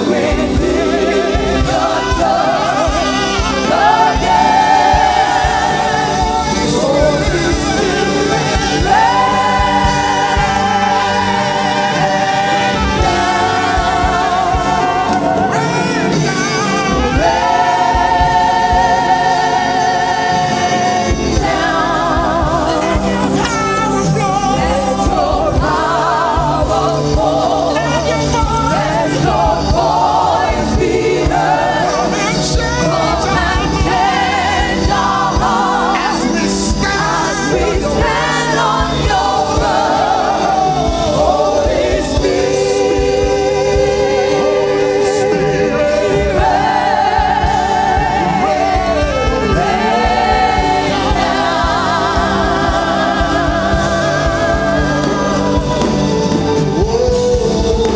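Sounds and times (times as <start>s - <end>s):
gospel choir singing: 0.0s - 57.9s
instrumental backing with drums: 0.0s - 57.9s.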